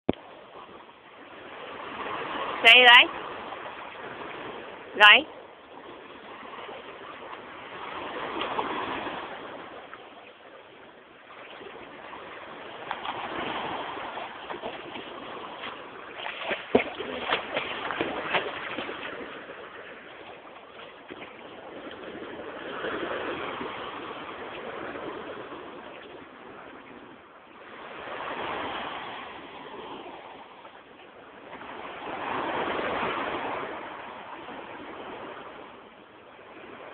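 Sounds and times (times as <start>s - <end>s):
small waves washing ashore: 0.2s - 36.9s.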